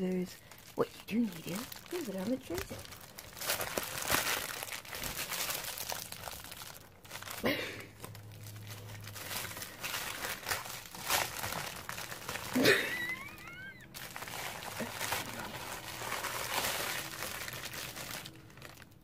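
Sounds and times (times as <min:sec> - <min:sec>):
plastic mailer crinkling and tearing: 0:00.0 - 0:19.0.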